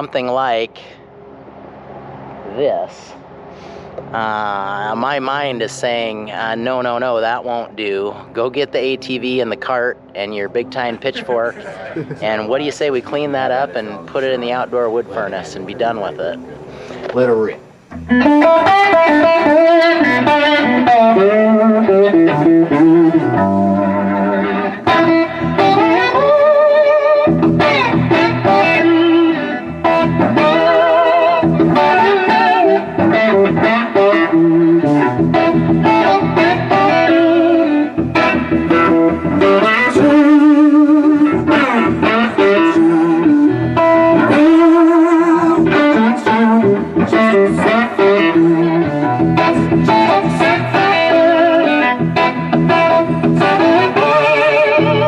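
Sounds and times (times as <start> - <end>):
bluesy electric guitar melody: 4.1 - 55.0.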